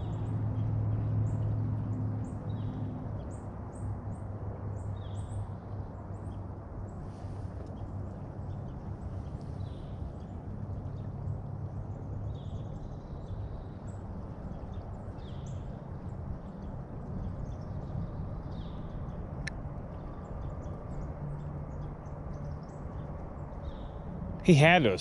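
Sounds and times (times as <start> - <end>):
wind: 0.0 - 25.0.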